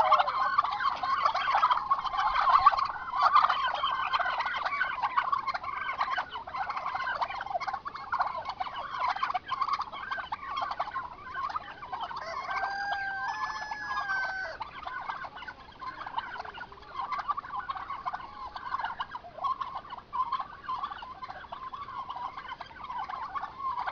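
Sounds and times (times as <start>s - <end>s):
long held turkey call: 0.0s - 23.9s
turkeys gobbling: 0.0s - 23.9s.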